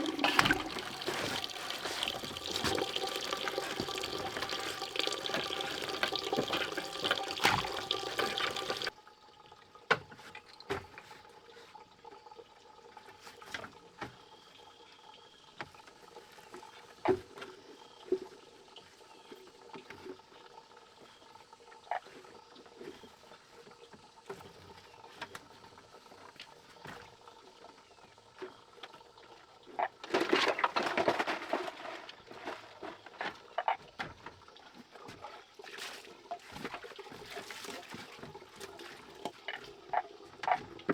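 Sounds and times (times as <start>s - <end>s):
water pouring and splashing: 0.0s - 40.9s.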